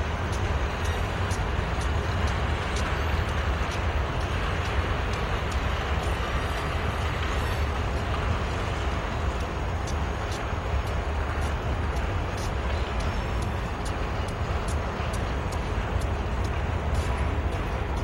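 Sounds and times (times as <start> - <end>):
diesel freight train rumble: 0.0 - 18.0
light clicks and ticks: 0.0 - 18.0.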